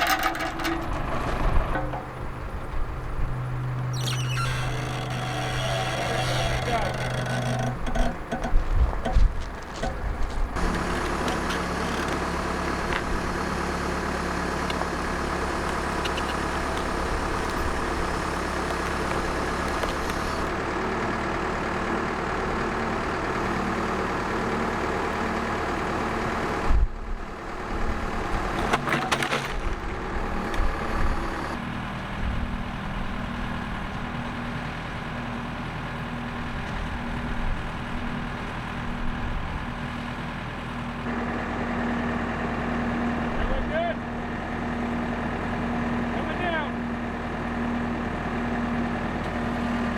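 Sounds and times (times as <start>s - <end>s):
sawmill gasoline engine running: 0.0s - 49.9s.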